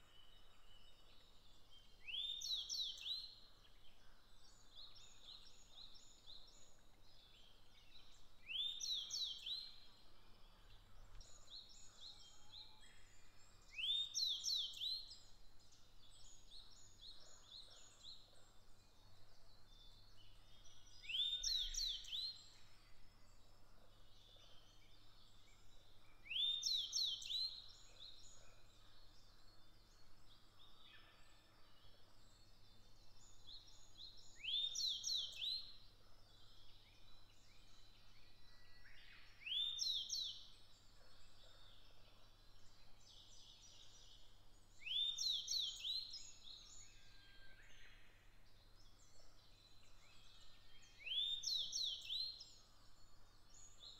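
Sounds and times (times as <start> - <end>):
faint high birdsong: 0.0 - 53.9.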